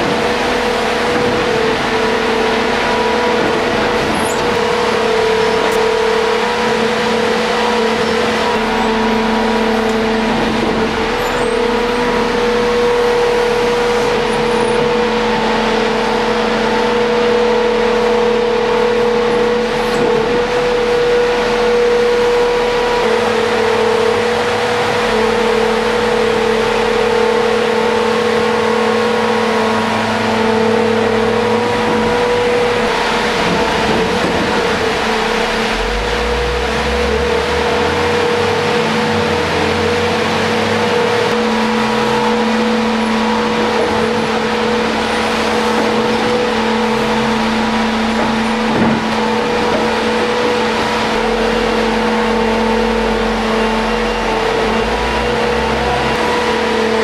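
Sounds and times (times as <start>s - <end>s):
dump truck engine rumble: 0.0s - 57.0s
tunnel machine humming and whining: 0.0s - 57.0s.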